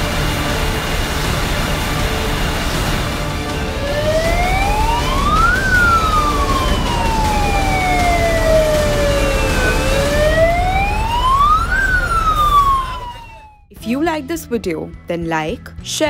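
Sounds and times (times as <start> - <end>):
emergency siren wailing: 0.0 - 13.7.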